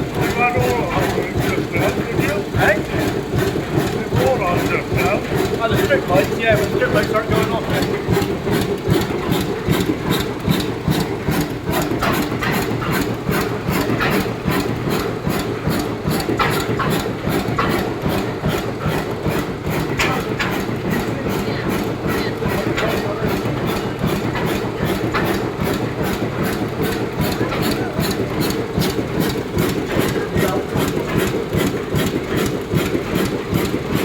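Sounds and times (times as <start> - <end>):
oil engine running: 0.0 - 34.0.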